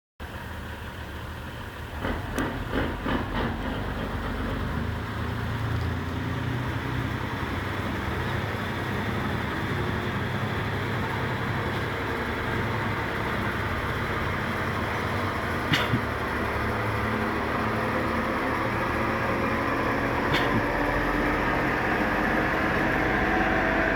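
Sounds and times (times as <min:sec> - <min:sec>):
diesel truck engine idling: 0:00.2 - 0:23.9.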